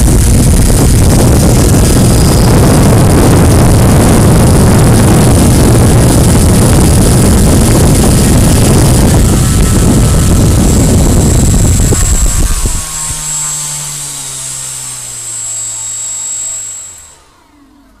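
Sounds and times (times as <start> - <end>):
rush of air: 0.0 - 14.4
propeller motor whining: 0.0 - 18.0.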